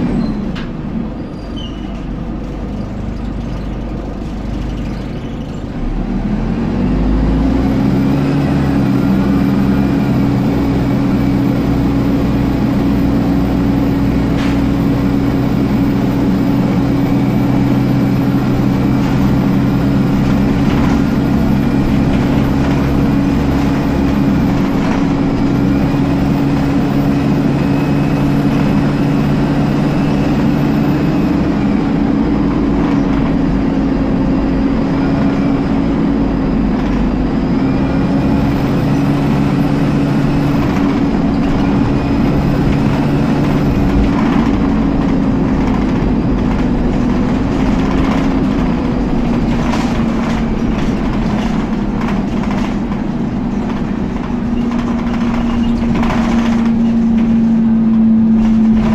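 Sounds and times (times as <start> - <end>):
bus drivetrain whine: 0.0 - 58.9.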